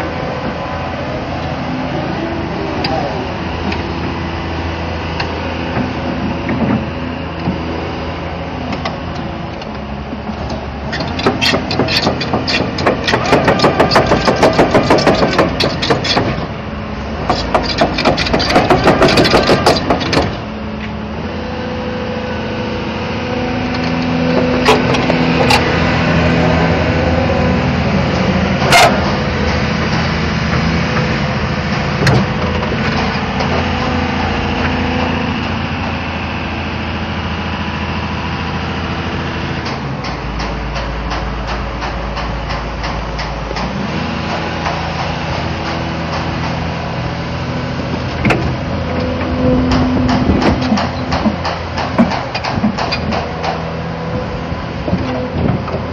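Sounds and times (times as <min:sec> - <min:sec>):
diesel engine running: 0:00.0 - 0:55.9
steel crawler track clattering: 0:00.0 - 0:55.9.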